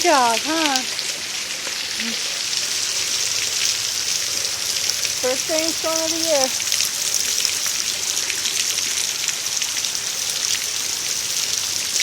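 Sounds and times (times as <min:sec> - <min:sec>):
raindrops tapping: 0:00.0 - 0:12.0
steady rain hiss: 0:00.0 - 0:12.0.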